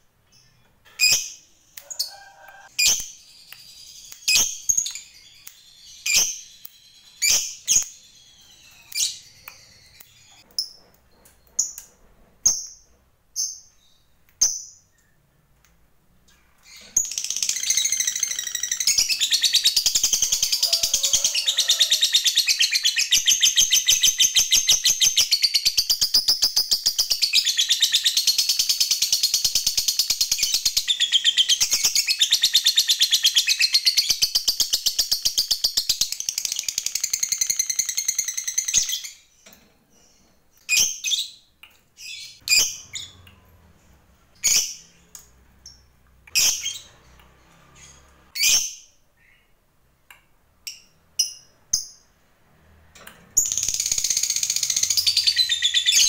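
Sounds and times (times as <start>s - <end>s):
lovebird chirping: 0.2s - 15.2s, 16.3s - 43.4s, 44.4s - 47.1s, 53.4s - 56.0s.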